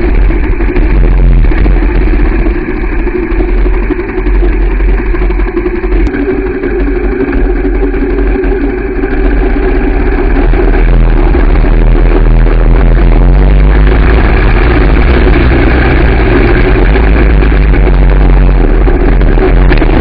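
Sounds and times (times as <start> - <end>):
low rumble on microphone: 0.0 - 20.0
vehicle engine running: 0.0 - 20.0.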